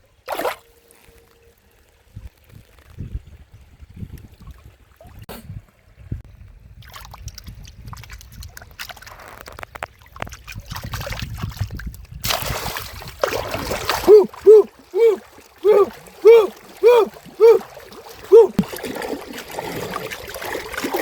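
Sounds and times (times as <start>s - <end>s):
water sloshing and splashing: 0.1s - 6.0s, 6.6s - 21.0s.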